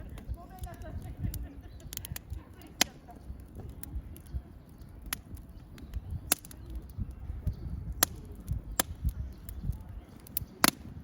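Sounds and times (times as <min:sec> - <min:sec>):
low rumble of fire: 0:00.0 - 0:11.0
sharp pops of fire: 0:00.0 - 0:11.0
wood fire crackling: 0:00.0 - 0:11.0.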